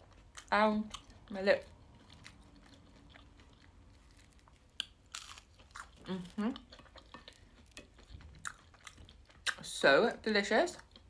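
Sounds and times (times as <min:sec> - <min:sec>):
chewing: 0:00.0 - 0:09.8, 0:10.7 - 0:11.0.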